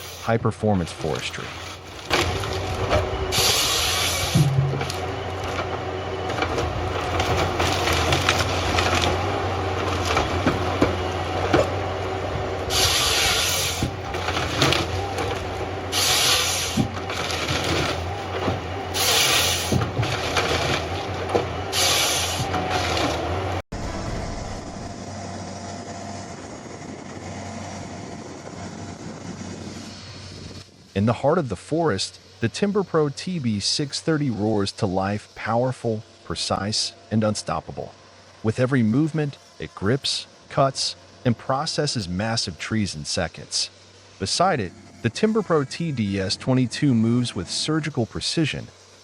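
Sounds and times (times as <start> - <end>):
harvester head sawing wood: 0.0 - 25.2, 32.0 - 49.0
harvester engine humming: 0.0 - 49.0.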